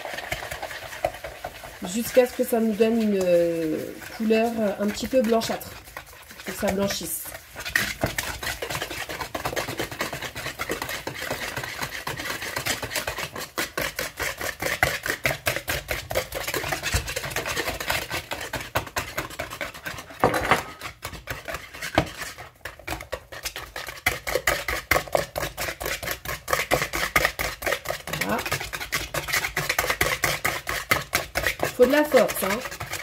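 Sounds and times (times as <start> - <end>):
whisk beating in a plastic bowl: 0.0 - 33.0.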